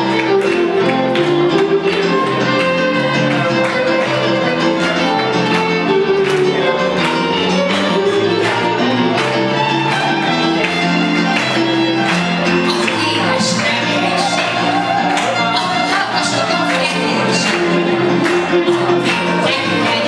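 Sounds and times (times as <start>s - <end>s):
keyboard backing: 0.0s - 20.0s
violin playing: 0.0s - 20.0s.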